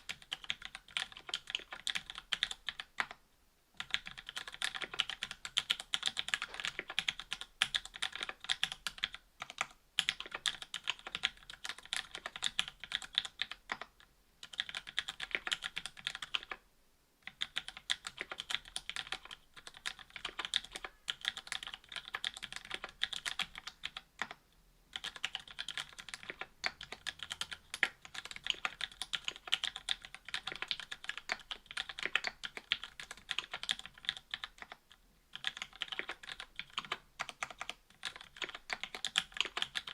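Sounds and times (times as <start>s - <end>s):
mechanical keyboard typing: 0.0s - 3.2s, 3.8s - 16.6s, 17.2s - 39.9s.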